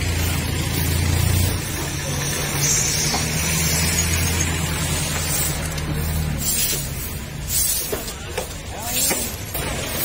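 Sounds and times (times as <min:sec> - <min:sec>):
brooms sweeping wet pavement: 0:00.0 - 0:10.0
engine idling: 0:00.0 - 0:10.0.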